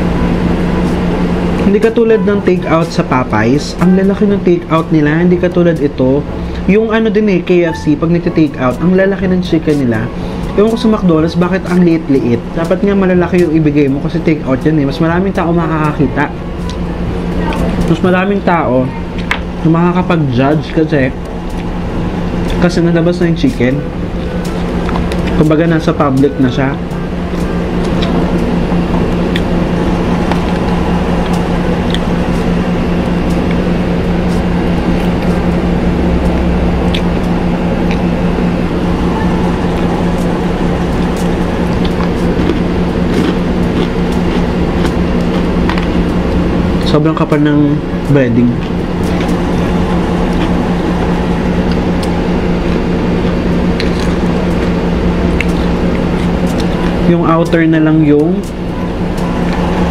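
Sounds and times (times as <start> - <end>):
loud machine hum: 0.0 - 59.9.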